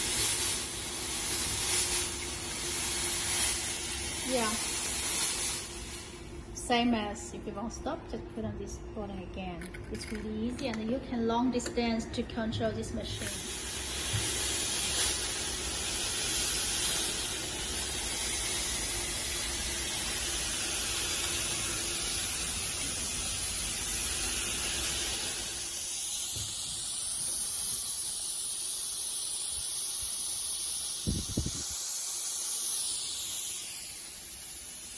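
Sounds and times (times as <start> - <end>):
fog machine hissing: 0.0 - 8.0, 12.7 - 34.9.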